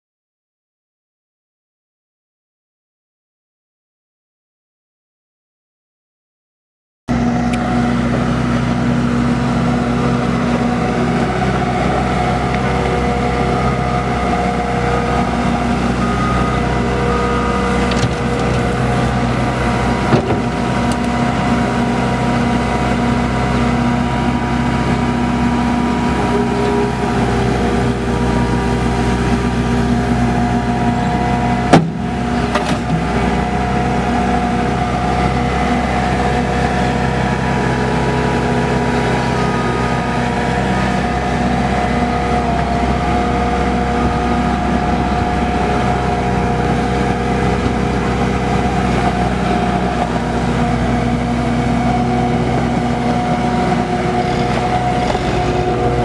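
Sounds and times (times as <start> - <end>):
diesel loader engine running: 7.1 - 56.0.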